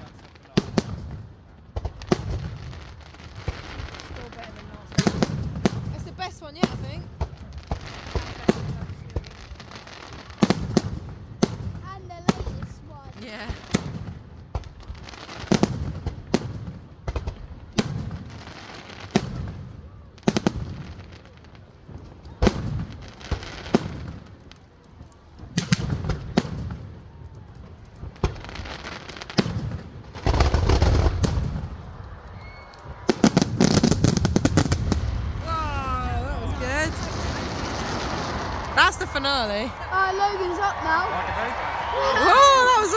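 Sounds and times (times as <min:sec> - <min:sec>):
firework bangs and crackles: 0:00.0 - 0:42.9.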